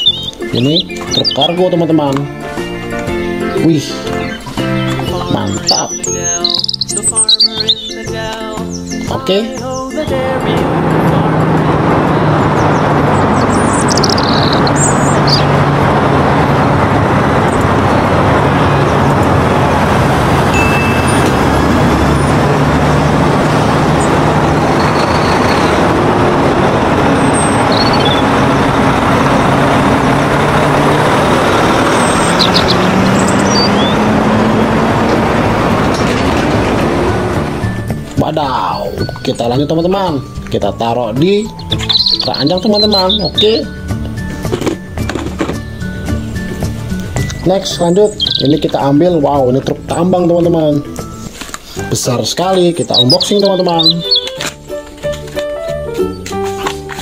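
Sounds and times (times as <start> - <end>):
vehicle engine running: 0.0 - 8.9, 10.1 - 40.6, 41.2 - 56.3
loud road noise: 0.0 - 57.0.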